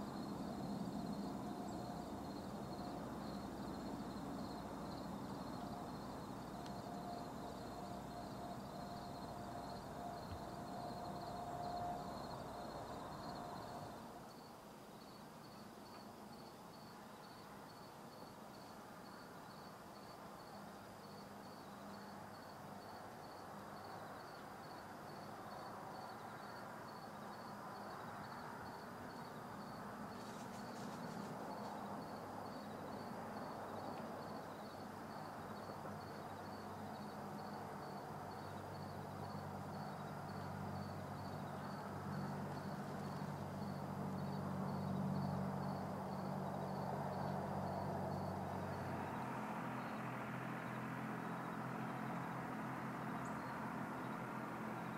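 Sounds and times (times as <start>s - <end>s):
faint insect chirping: 0.0s - 54.9s
soft outdoor hiss: 0.0s - 54.9s.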